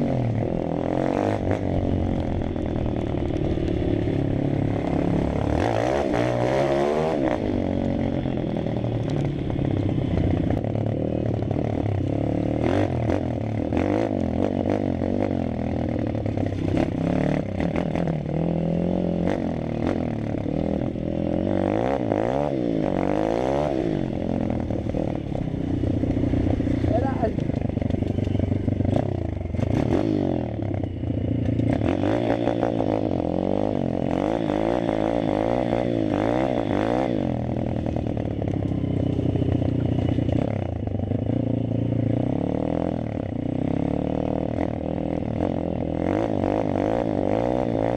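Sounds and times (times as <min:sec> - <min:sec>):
pit bike engine revving: 0:00.0 - 0:47.9.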